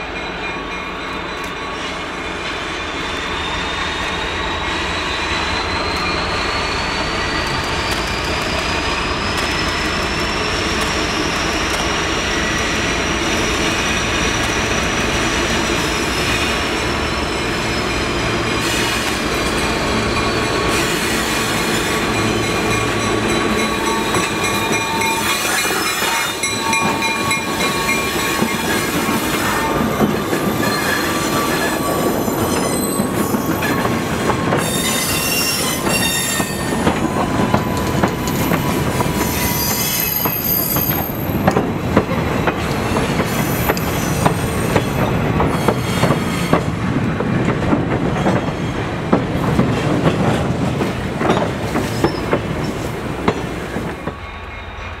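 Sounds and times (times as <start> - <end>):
diesel locomotive engine: 0.0 - 55.0
steel wheels squealing on rail: 0.0 - 55.0.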